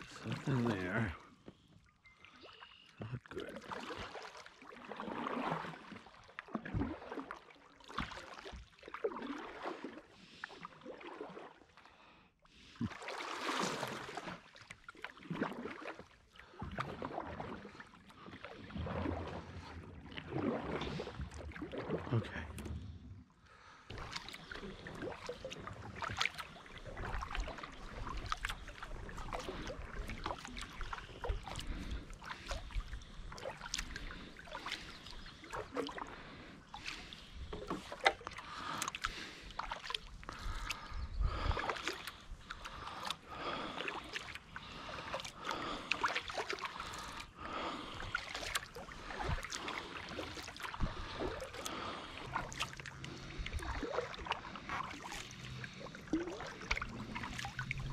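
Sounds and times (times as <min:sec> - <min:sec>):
paddle splashing in water: 0:00.0 - 0:22.8, 0:23.5 - 0:57.9.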